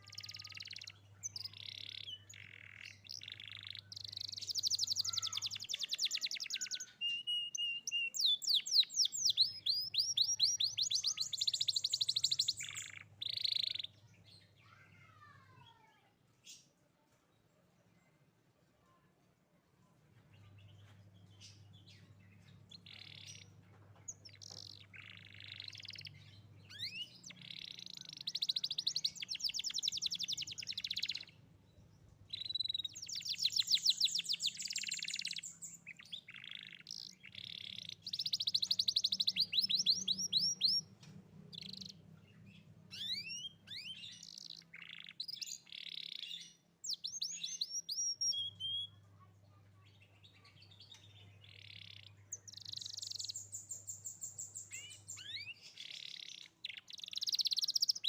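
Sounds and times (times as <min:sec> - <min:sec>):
canary singing trills: 0:00.0 - 0:15.6, 0:20.4 - 0:58.0.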